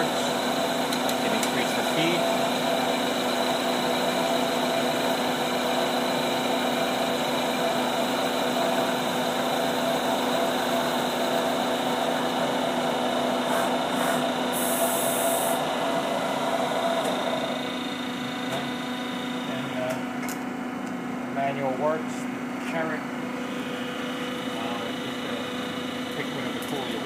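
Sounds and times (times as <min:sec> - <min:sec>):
lathe machining metal: 0:00.0 - 0:19.8, 0:23.4 - 0:27.0
motor whine: 0:00.0 - 0:19.8, 0:23.2 - 0:27.0.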